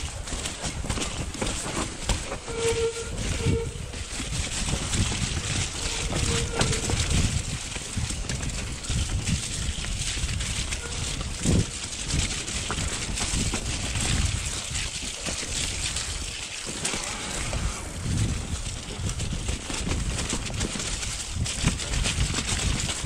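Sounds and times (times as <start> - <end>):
bike knocks and rattles: 0.0 - 23.0
bike tyre rumble: 0.0 - 23.0
wind buffeting microphone: 0.0 - 23.0.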